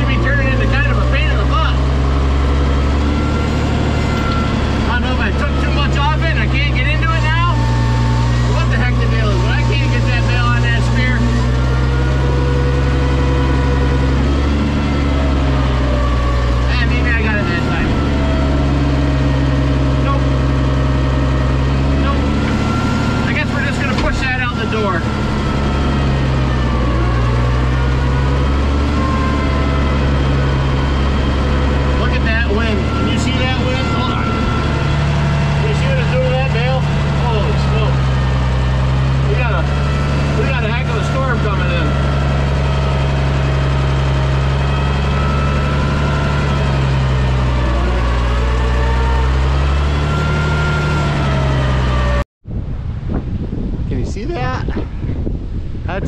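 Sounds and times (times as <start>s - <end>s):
tractor engine running: 0.0s - 53.7s.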